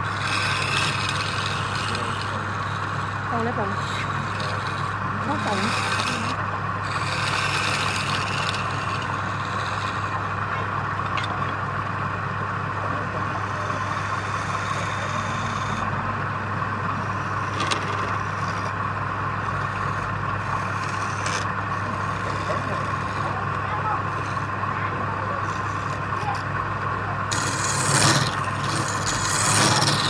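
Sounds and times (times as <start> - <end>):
tool scraping spinning wood: 0.0 - 30.0
wood lathe running: 0.0 - 30.0.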